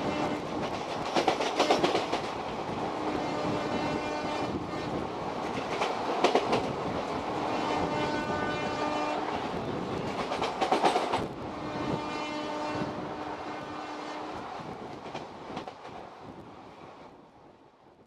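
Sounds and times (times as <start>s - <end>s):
wheels clickety-clack over rail joints: 0.0s - 12.0s, 14.3s - 16.9s
loud train clatters: 0.0s - 16.3s
train rushing past: 0.0s - 17.3s.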